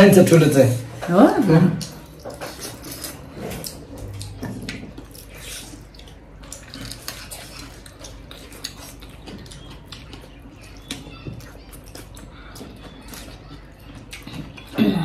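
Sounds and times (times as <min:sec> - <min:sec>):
wet chewing and lip smacking: 0:01.8 - 0:14.8.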